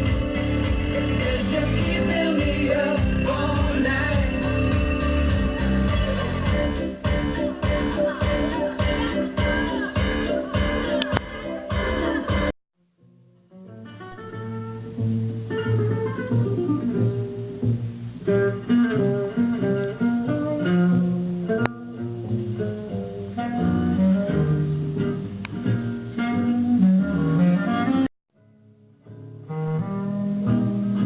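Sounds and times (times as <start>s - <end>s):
guitar-led instrumental music: 0.0s - 12.6s, 13.4s - 31.0s.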